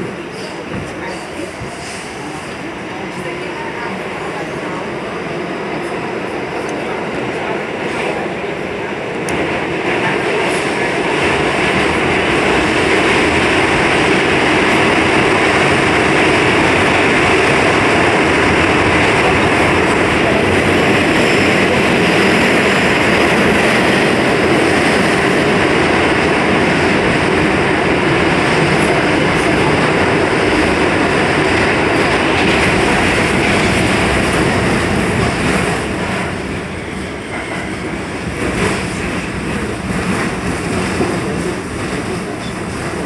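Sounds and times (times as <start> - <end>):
subway wheels rumbling on rail: 0.0 - 43.0.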